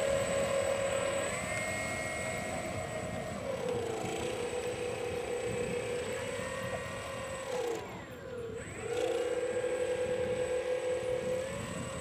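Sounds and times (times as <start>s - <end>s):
model plane electric motors whining: 0.0s - 12.0s.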